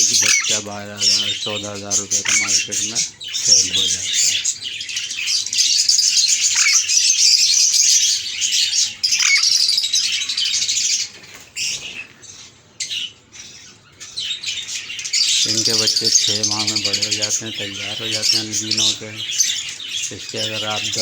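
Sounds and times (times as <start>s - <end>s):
caged birds chirping: 0.0s - 21.0s.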